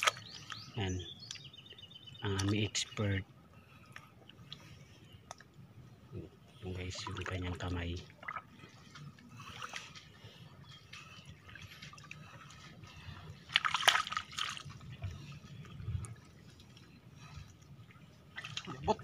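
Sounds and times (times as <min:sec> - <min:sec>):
mud and water squelching: 0:00.0 - 0:01.6, 0:02.2 - 0:05.6, 0:06.6 - 0:19.0.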